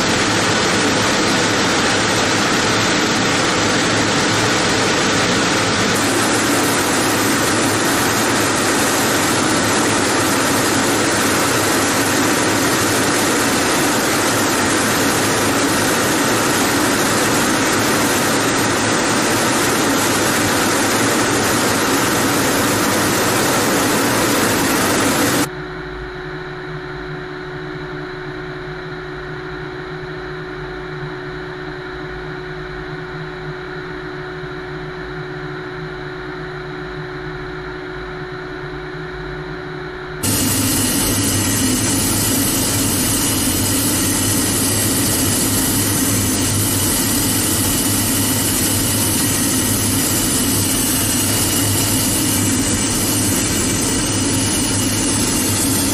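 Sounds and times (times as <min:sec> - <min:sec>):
jet engine and airflow noise: 0:00.0 - 0:55.9.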